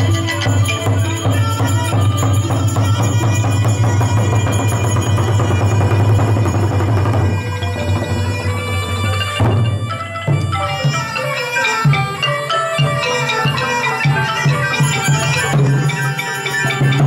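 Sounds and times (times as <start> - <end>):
drums: 0.0 - 17.0
xylophones: 0.0 - 17.0.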